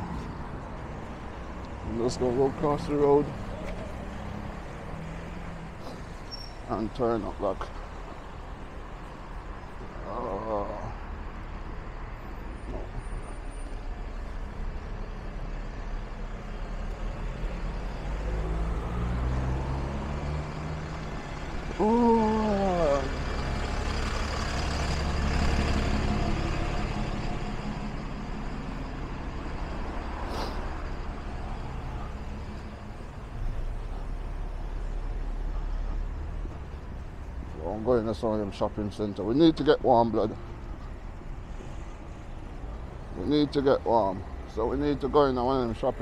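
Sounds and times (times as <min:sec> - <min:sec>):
heavy vehicle engine rumble: 0:00.0 - 0:46.0.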